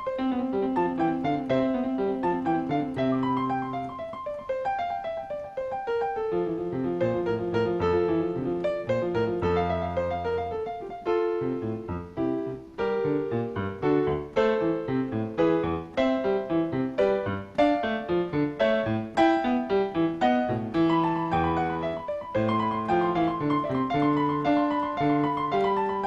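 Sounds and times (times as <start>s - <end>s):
piano piece: 0.0s - 26.0s.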